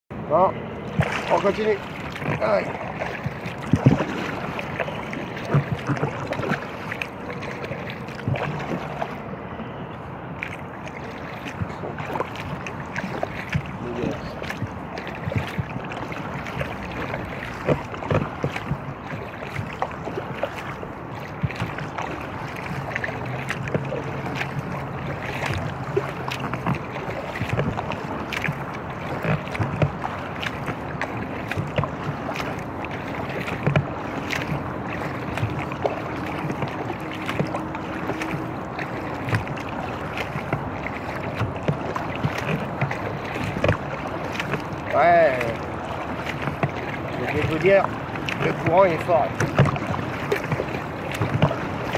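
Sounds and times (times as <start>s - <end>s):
water rushing: 0.1s - 51.9s
paddle splashes and knocks: 0.3s - 51.9s.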